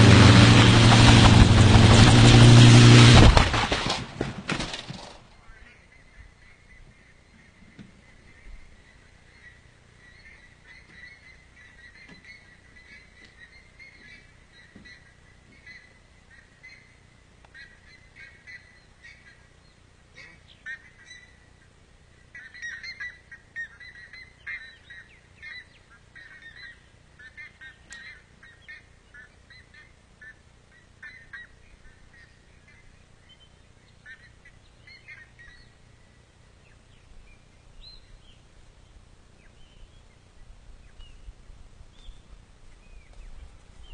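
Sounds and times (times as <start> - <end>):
birds calling faintly: 5.2 - 43.9.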